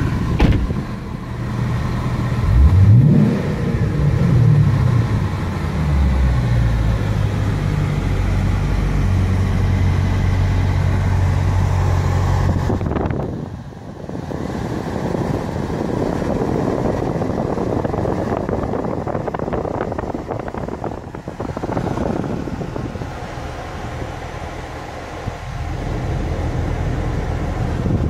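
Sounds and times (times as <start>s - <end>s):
car engine cabin rumble: 0.0s - 28.0s.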